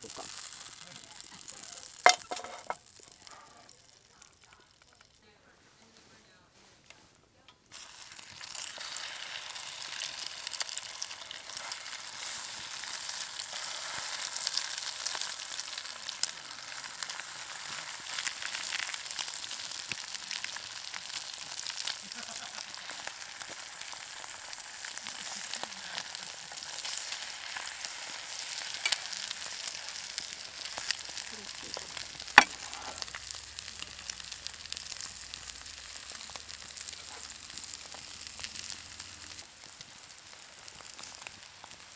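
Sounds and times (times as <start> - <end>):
food sizzling in a frying pan: 0.0 - 5.3, 6.0 - 41.9.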